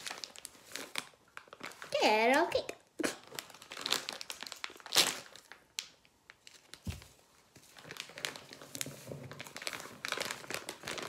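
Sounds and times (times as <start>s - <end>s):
bag crinkling and rustling: 0.0s - 2.6s, 3.2s - 11.0s.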